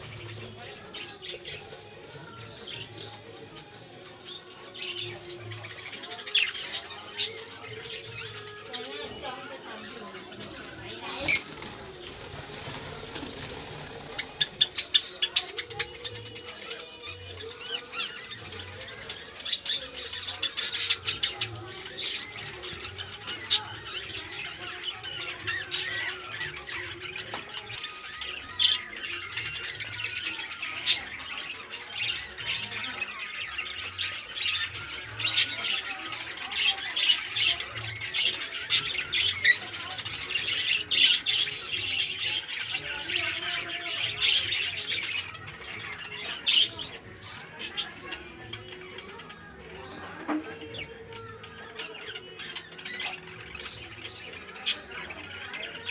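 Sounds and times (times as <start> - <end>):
parrots chirping and squawking: 10.5 - 27.2, 27.8 - 55.9.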